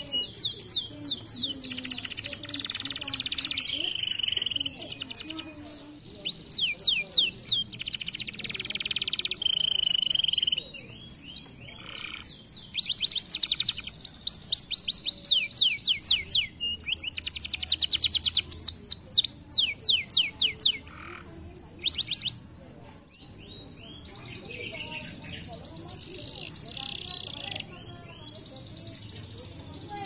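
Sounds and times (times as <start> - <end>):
canary singing: 0.0 - 22.5, 23.1 - 30.0.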